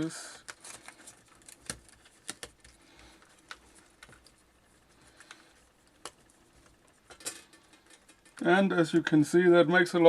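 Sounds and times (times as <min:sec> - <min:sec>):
small parts clicking and tapping: 0:00.4 - 0:08.5.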